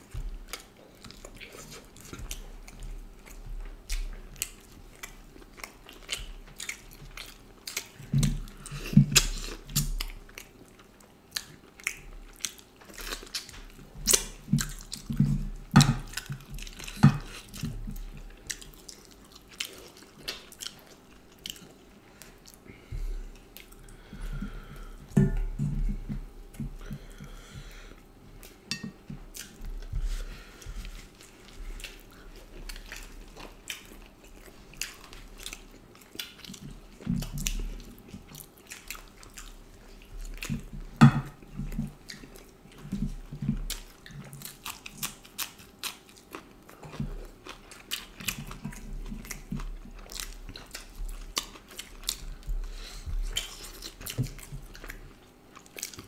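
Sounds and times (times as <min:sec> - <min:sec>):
people chewing and biting: 0:00.0 - 0:56.0.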